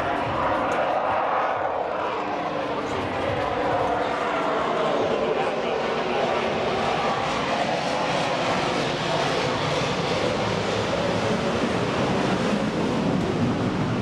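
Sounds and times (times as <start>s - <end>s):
airplane engine drone: 0.0s - 14.0s.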